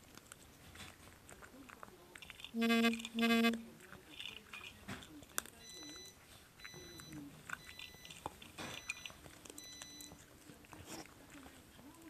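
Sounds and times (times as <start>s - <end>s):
dog crunching and chewing food: 0.0s - 12.0s
teeth and food clicking on bowl: 0.0s - 12.0s.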